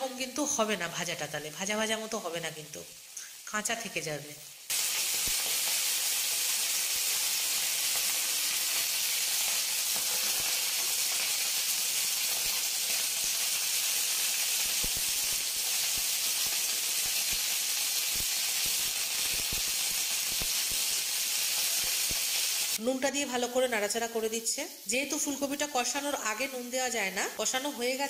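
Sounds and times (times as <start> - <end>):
broccoli sizzling in hot oil: 0.0 - 28.0.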